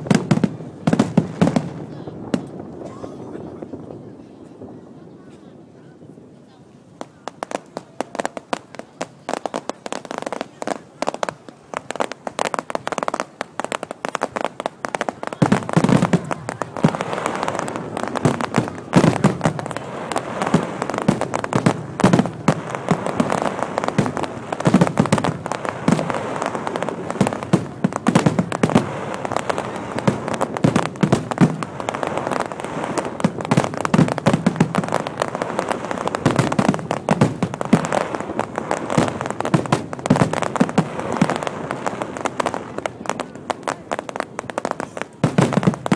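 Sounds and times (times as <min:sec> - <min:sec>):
firecrackers crackling: 0:00.0 - 0:45.9
heavy fireworks booms: 0:00.0 - 0:45.9.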